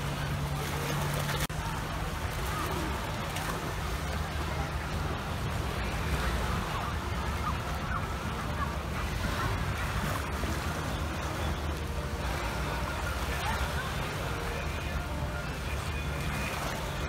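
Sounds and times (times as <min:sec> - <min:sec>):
small waves washing onto shore: 0:00.0 - 0:17.0.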